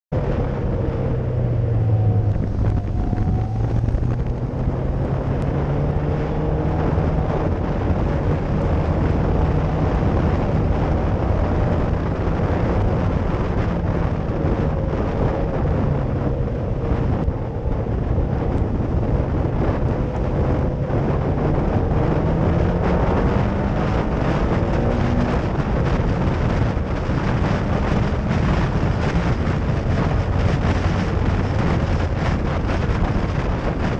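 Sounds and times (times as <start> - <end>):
wind buffeting microphone: 0.1 - 33.9
racing car engine revving: 1.4 - 16.3, 18.0 - 33.6.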